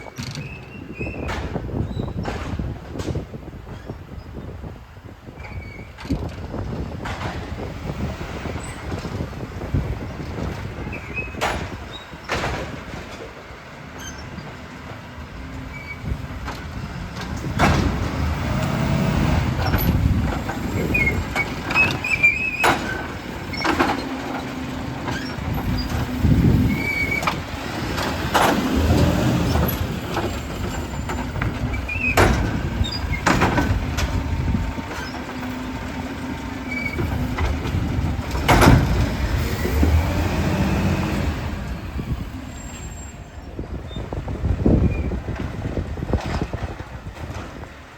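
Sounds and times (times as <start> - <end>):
truck engine and hydraulics whine: 0.0 - 47.9.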